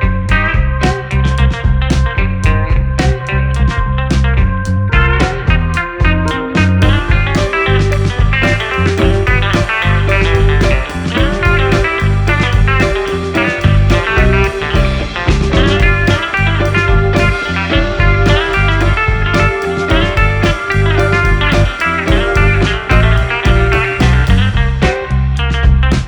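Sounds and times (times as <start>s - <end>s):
guitar-led instrumental music: 0.0s - 26.0s.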